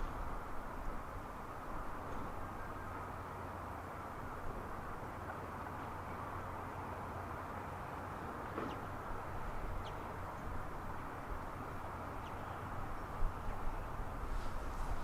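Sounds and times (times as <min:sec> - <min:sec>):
low rumble and wash: 0:00.0 - 0:15.0.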